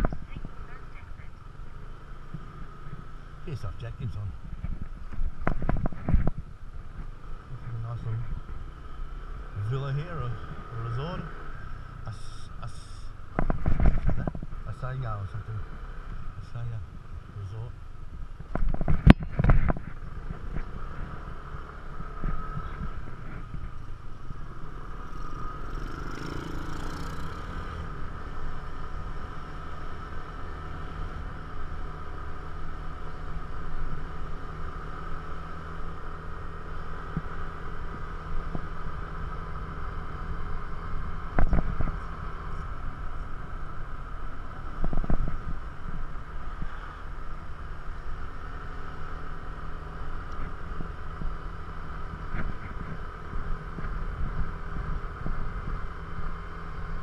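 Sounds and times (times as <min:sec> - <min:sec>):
scooter engine humming: 0:00.0 - 0:14.6, 0:15.2 - 0:57.0
wind and road noise: 0:00.0 - 0:57.0.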